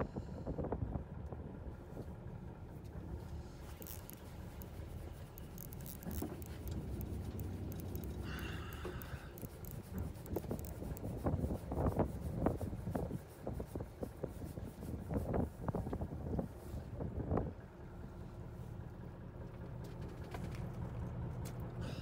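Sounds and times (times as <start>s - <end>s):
boat engine rumble: 0.0s - 22.0s
wind: 0.0s - 22.0s.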